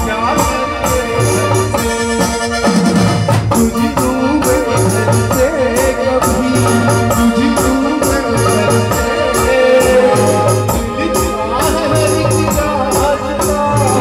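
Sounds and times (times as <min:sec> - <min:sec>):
drum and dholak beat: 0:00.0 - 0:14.0
electronic keyboard melody: 0:00.0 - 0:14.0.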